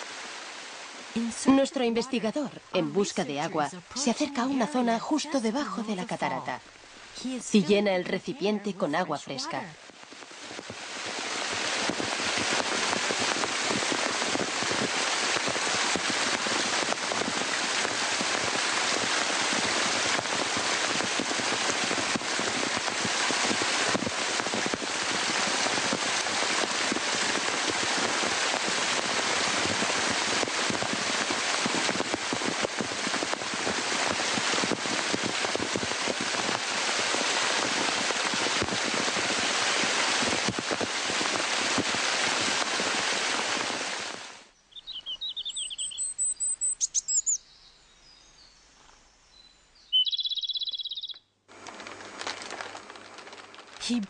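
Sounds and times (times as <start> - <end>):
waterfall pouring over rock: 0.0 - 7.2, 9.6 - 44.5, 51.5 - 54.0.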